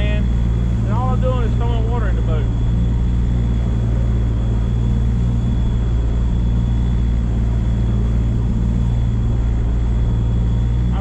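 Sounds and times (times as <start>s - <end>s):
boat engine low hum: 0.0s - 11.0s
jet pump churning water: 0.0s - 11.0s.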